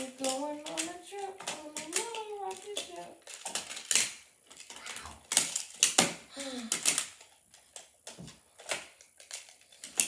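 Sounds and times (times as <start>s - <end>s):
plastic blocks clicking together: 0.0s - 10.0s.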